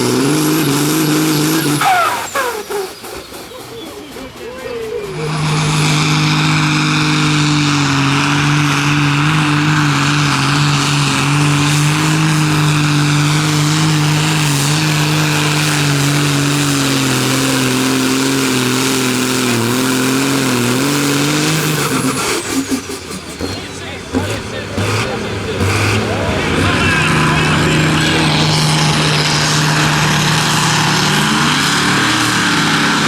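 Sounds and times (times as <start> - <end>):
tractor engine running flat out: 0.0 - 33.0.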